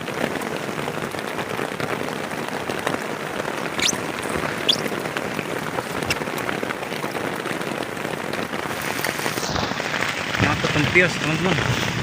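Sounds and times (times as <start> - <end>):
heavy rain on plastic tarp: 0.0 - 12.0.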